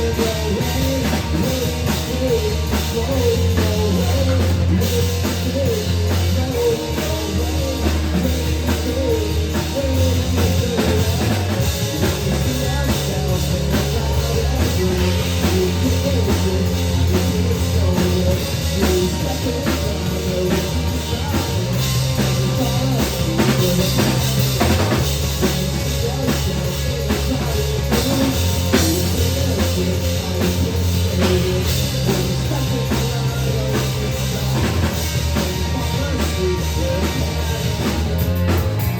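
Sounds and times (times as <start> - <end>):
rock song with drums and guitar: 0.0 - 38.9.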